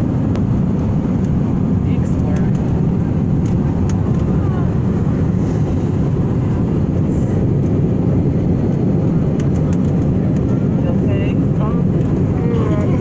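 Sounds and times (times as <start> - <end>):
airliner cabin engine roar: 0.0 - 13.0.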